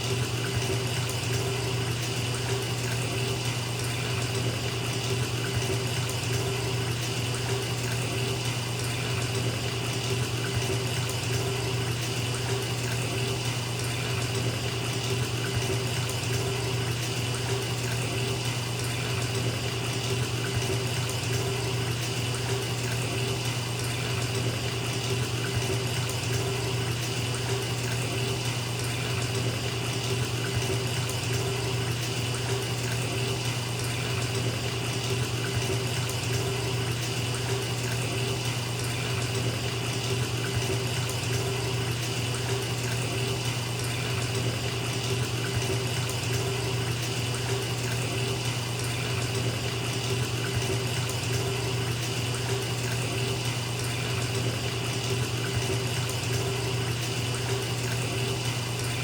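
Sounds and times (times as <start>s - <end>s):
water pouring into bathtub: 0.0s - 59.0s.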